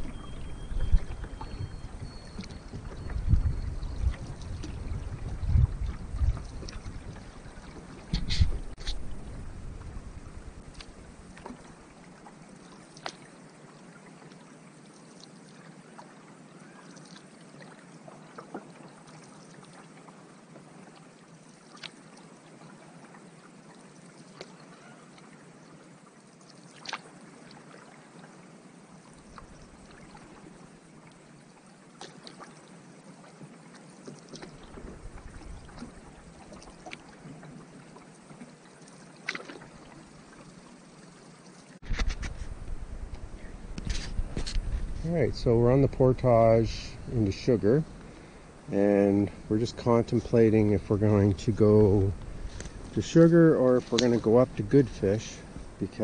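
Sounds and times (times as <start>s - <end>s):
water lapping and trickling: 0.0s - 56.0s.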